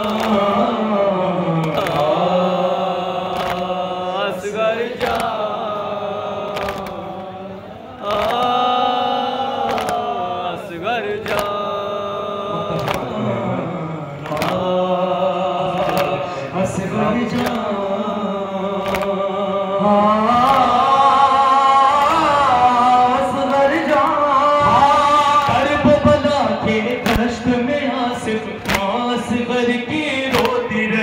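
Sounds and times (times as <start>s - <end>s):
men chanting through loudspeakers: 0.0s - 31.0s.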